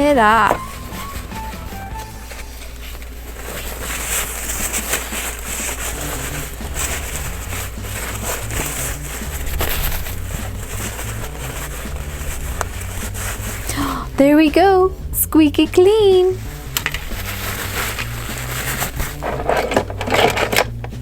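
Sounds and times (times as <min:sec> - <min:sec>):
towel scrubbing and wiping: 0:00.0 - 0:21.0.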